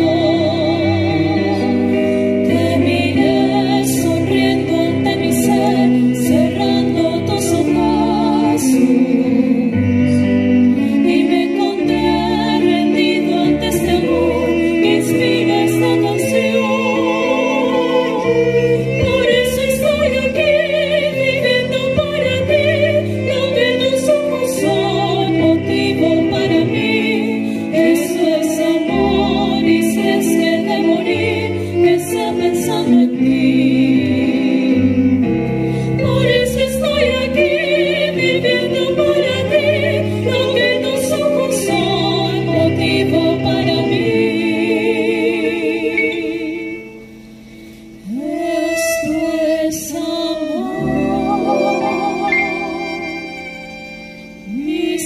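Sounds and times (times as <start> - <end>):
digital piano: 0.0 - 55.0
violin: 0.0 - 55.0
women singing with vibrato: 0.0 - 55.0.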